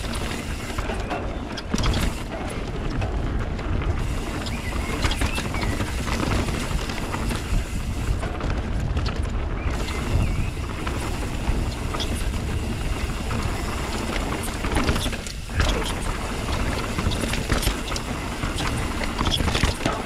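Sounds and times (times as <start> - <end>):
bike clicks and rattles: 0.0 - 20.0
bike tyre noise: 0.0 - 20.0
wind on microphone: 0.0 - 20.0.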